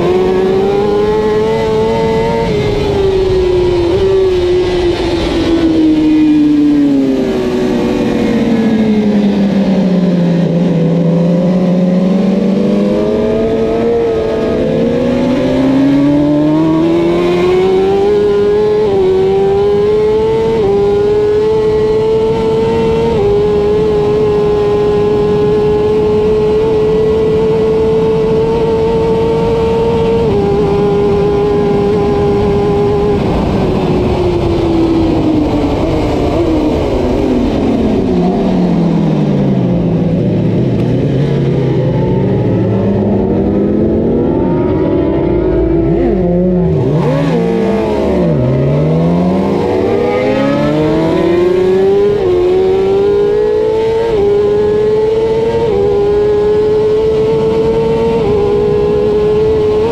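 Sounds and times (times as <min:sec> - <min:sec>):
motorcycle engine at full throttle: 0:00.0 - 0:59.9
wind rush: 0:00.0 - 0:59.9.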